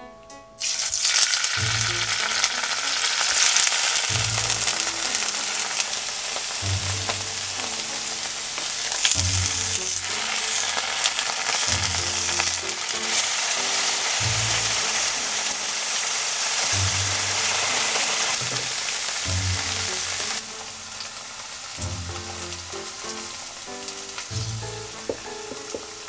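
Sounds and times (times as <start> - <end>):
tofu sizzling in a frying pan: 0.6 - 26.0.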